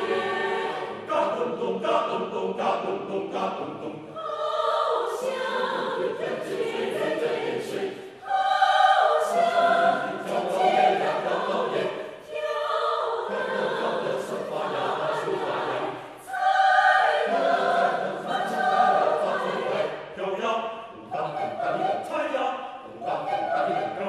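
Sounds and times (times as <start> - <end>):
mixed choir singing: 0.0 - 24.0.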